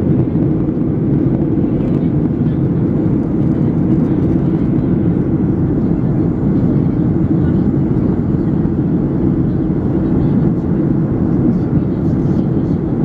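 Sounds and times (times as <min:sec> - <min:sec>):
jet airliner cabin rumble: 0:00.0 - 0:13.0.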